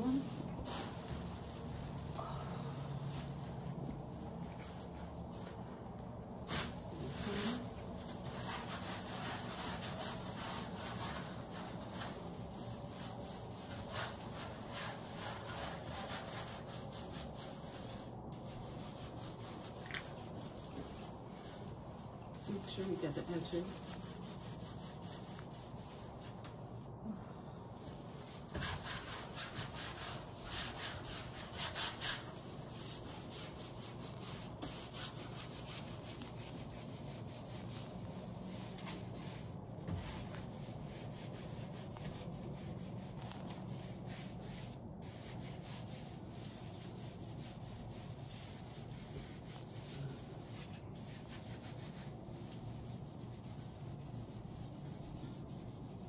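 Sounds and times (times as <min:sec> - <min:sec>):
gloved hands rubbing paint on canvas: 0:00.0 - 0:26.7, 0:27.7 - 0:56.0.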